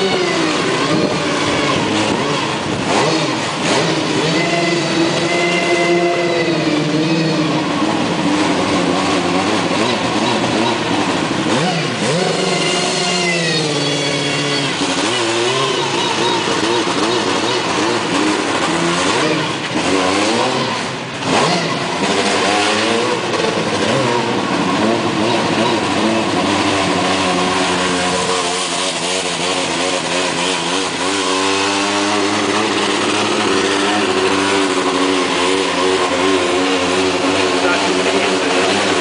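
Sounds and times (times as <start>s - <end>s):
race car engine revving: 0.0s - 39.0s.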